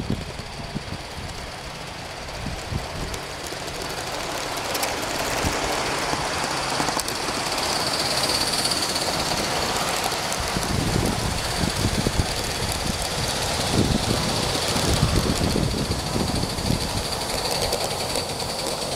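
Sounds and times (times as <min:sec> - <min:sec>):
model train wheels clicking and rumbling: 0:00.0 - 0:18.9.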